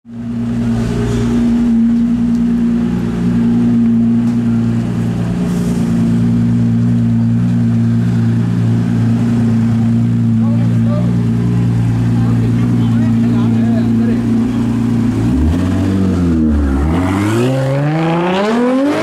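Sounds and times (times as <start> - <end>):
car engine idling: 0.1 - 17.9.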